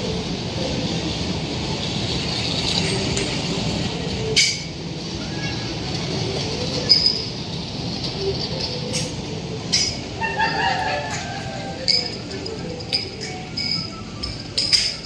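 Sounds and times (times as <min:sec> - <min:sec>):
bumper cars rumbling: 0:00.0 - 0:15.0.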